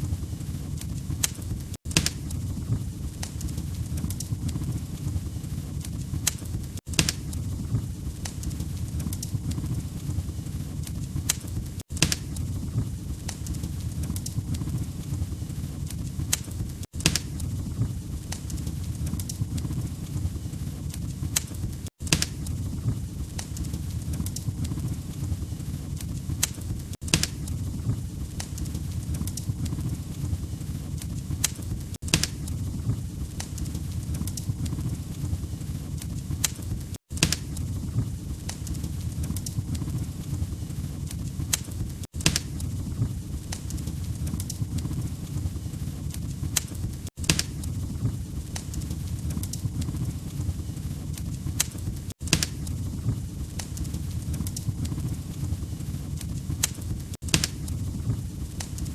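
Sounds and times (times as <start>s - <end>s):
log fire crackling: 0.0s - 58.9s.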